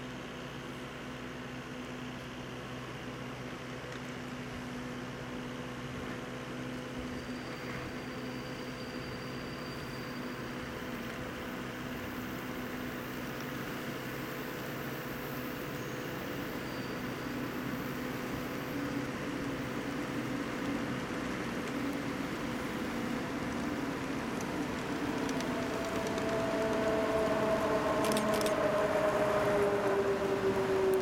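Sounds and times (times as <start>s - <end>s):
electric train hum: 0.0s - 31.0s.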